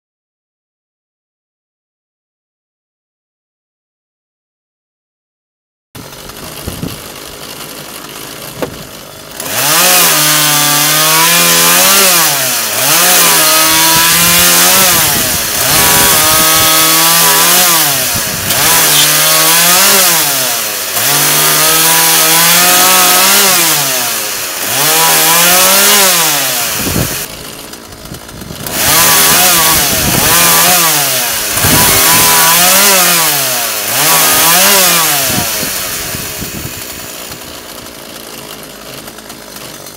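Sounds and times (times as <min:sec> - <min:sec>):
chainsaw idling and revving: 0:06.0 - 0:39.9.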